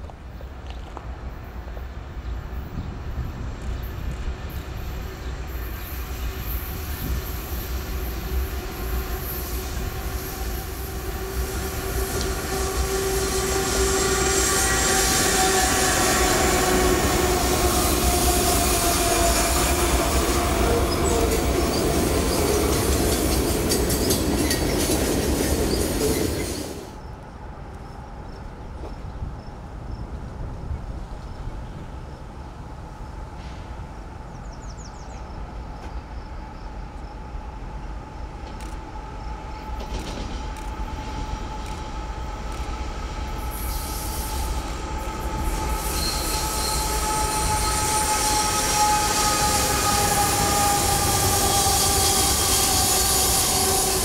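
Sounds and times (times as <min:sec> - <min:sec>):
train engines and wheels rumbling: 0:00.0 - 0:54.0
train wheel squeal: 0:03.7 - 0:27.1, 0:33.3 - 0:54.0.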